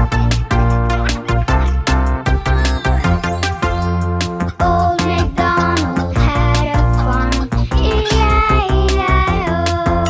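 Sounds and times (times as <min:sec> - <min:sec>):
instrumental children's song music: 0:00.0 - 0:10.0.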